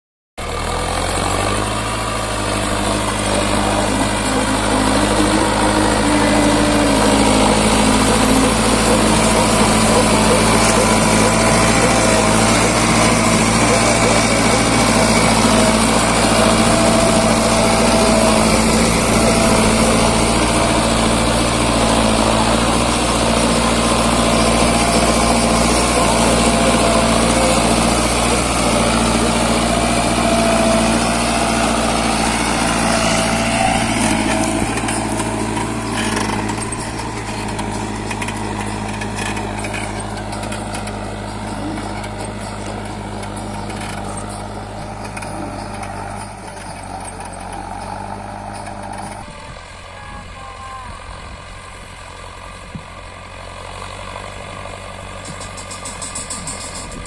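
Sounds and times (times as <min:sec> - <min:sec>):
tractor diesel engine under load: 0:00.4 - 0:57.0.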